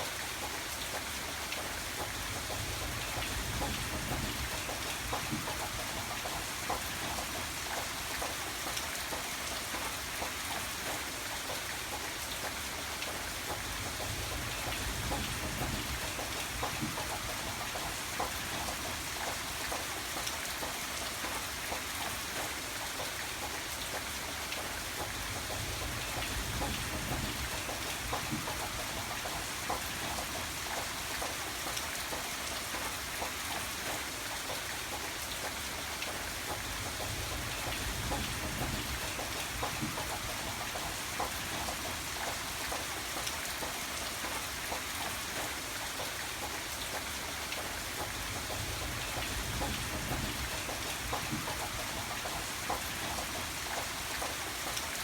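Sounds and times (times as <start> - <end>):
raindrops pattering on a surface: 0.0 - 55.0.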